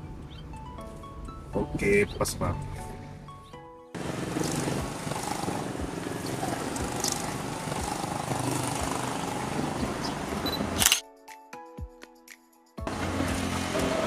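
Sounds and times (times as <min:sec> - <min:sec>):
vehicles and motorbikes passing: 0:00.0 - 0:10.9, 0:12.8 - 0:14.0.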